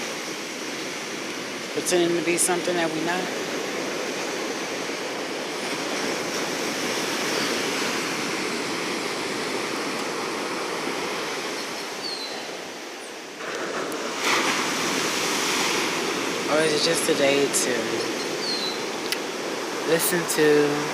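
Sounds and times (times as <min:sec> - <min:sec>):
ocean surf breaking: 0:00.0 - 0:20.9.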